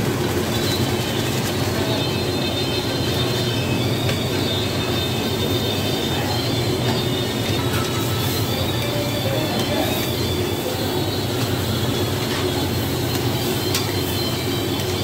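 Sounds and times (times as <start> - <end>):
gas burner roaring: 0.0 - 15.0
food sizzling in a pan: 2.7 - 15.0.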